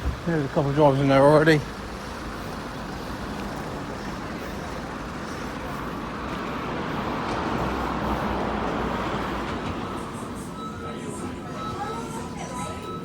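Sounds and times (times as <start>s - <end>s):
road traffic rushing past: 0.0s - 13.0s.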